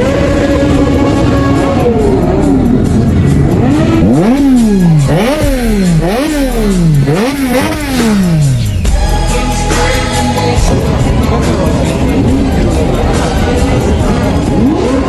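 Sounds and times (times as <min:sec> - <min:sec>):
background music: 0:00.0 - 0:15.0
vehicle engine revving: 0:00.0 - 0:15.0.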